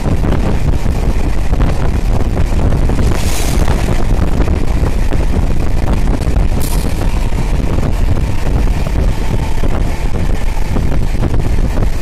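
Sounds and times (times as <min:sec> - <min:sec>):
electric train rumbling: 0:00.0 - 0:12.0
wind buffeting microphone: 0:00.0 - 0:12.0.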